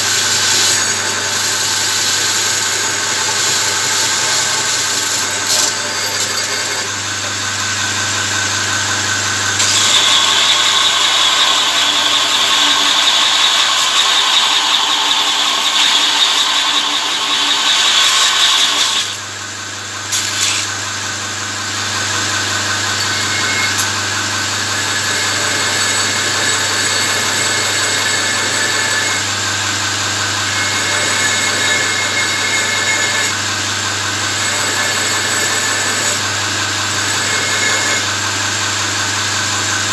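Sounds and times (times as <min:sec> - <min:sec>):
steel grinding on belt: 0:00.0 - 0:19.2, 0:20.1 - 0:20.8, 0:21.9 - 0:38.5
belt grinder motor hum: 0:00.0 - 0:19.3, 0:19.9 - 0:39.9.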